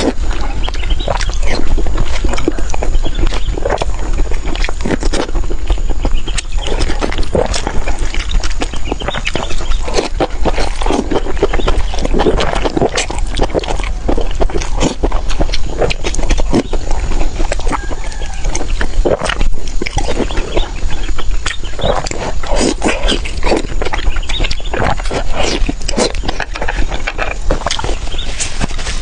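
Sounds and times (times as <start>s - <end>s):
person chewing and lip-smacking: 0.0s - 29.0s.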